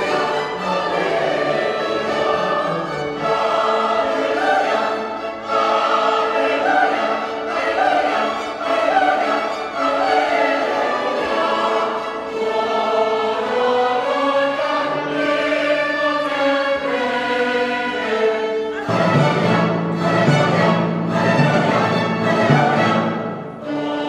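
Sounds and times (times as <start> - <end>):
choir singing: 0.0 - 24.0
instrumental accompaniment: 0.0 - 24.0.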